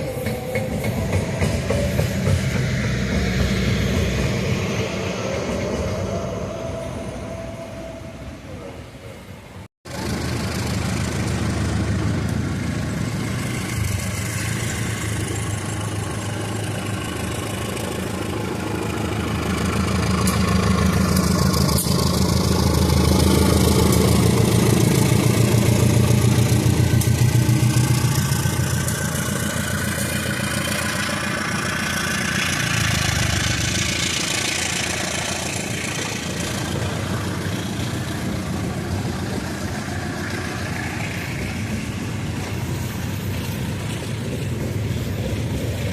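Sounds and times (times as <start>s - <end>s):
diesel locomotive engine throbbing: 0.0s - 45.9s.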